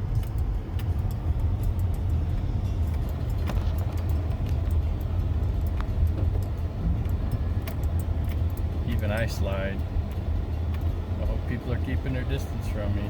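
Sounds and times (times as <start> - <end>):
car driving rumble inside cabin: 0.0 - 13.0
faint clicks and rattles: 0.0 - 13.0.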